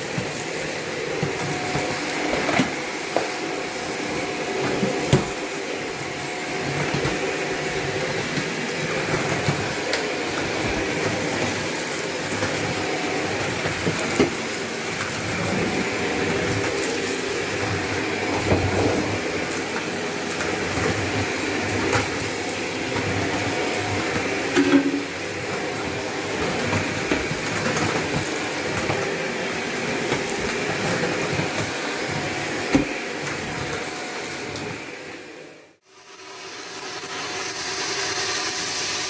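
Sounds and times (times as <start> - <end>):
debris rattling in vacuum: 0.0 - 34.8
vacuum cleaner running: 0.0 - 39.0.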